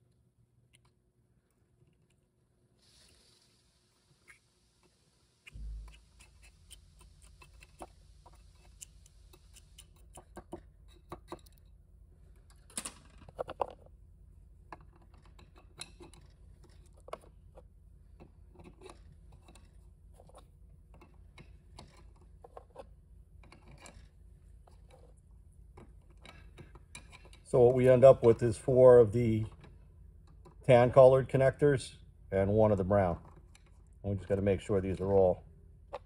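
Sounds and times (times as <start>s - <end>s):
steady low hum: 5.1s - 36.0s.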